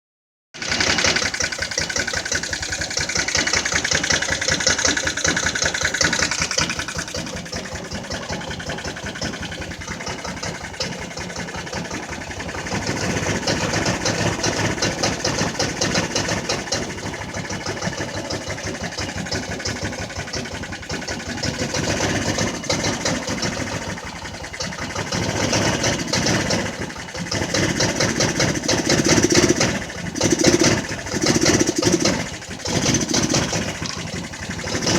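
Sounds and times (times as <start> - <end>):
scooter engine running: 0.6 - 34.9.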